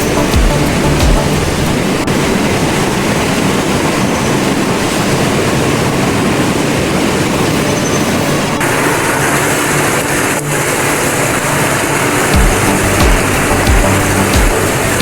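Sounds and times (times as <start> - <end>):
rush of falling water: 0.0 - 15.0.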